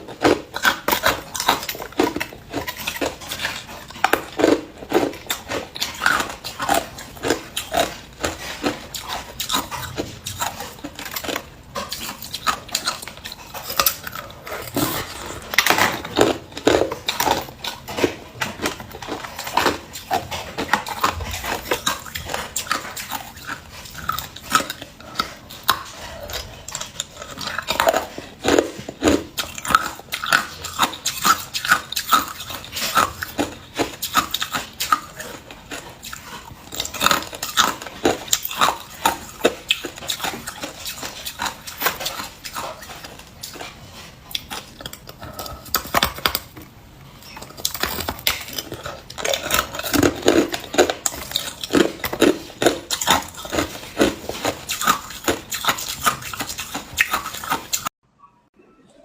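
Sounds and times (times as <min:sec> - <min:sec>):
person chewing ice: 0:00.0 - 0:58.0.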